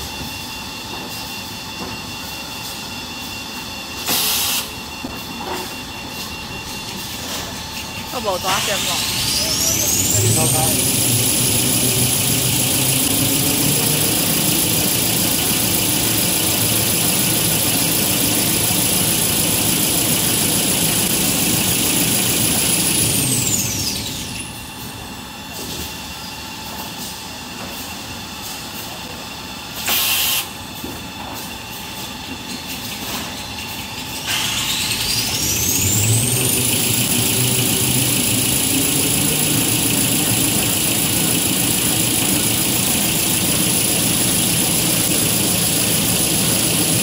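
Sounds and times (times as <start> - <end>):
machine running with high whine: 0.0 - 28.4, 29.0 - 47.0.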